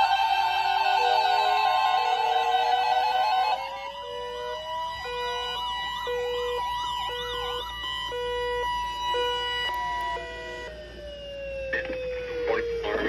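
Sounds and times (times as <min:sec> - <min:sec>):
siren-like warbling sweeps: 0:00.0 - 0:13.0
steady warning alarm tone: 0:00.0 - 0:13.0.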